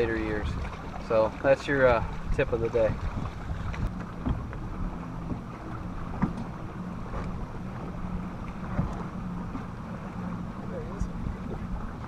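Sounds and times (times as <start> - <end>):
low steady hum: 0.0 - 12.0
wind buffeting microphone: 0.0 - 12.0.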